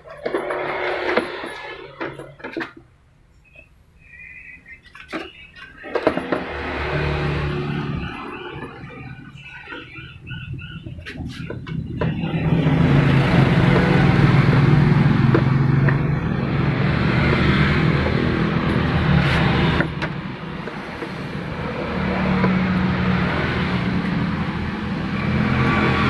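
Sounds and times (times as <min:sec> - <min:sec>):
vehicle engine droning: 0:04.0 - 0:26.0.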